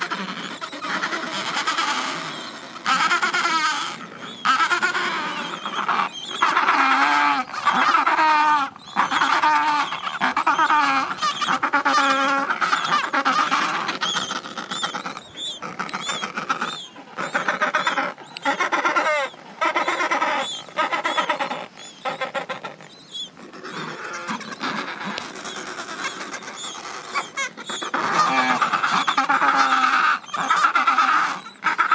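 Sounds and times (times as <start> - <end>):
penguins calling: 0.0 - 31.9.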